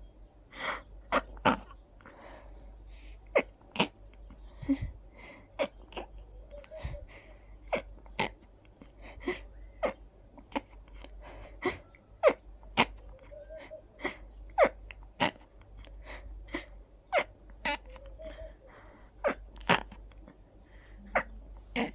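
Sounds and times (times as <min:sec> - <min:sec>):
faint breaths: 0:00.0 - 0:21.9.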